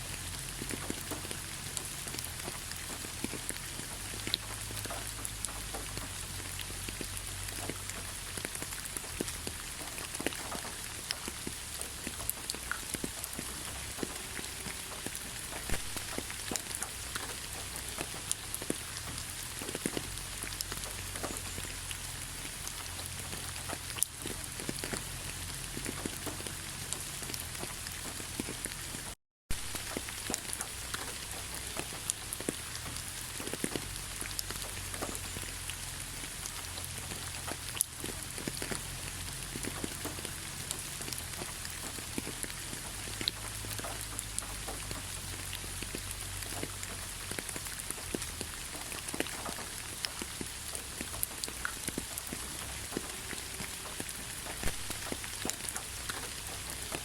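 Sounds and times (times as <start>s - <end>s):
raindrops clicking: 0.0s - 57.0s
steady rain falling: 0.0s - 57.0s.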